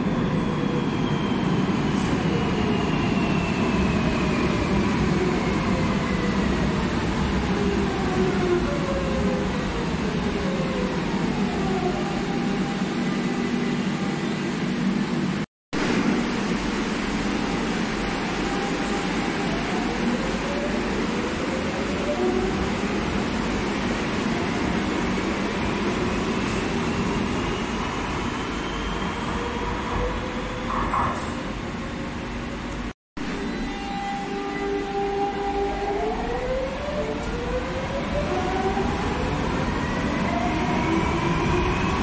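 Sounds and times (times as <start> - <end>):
electric train rumbling on rails: 0.0 - 42.0.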